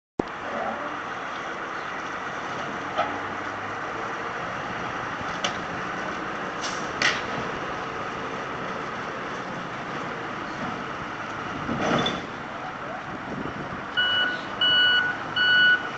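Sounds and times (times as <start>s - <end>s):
forklift engine running: 0.2s - 15.9s.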